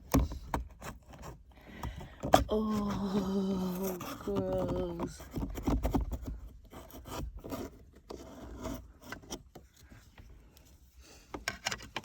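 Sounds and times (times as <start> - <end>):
scraping on plastic trim: 0.0 - 10.2, 11.2 - 12.0.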